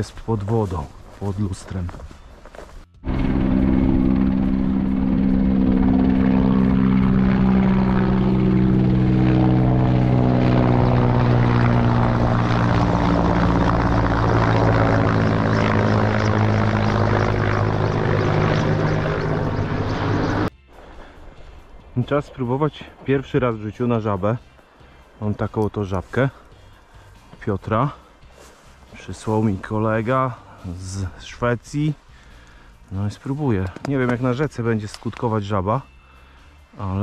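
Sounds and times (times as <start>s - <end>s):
propeller hum: 0.0s - 35.2s.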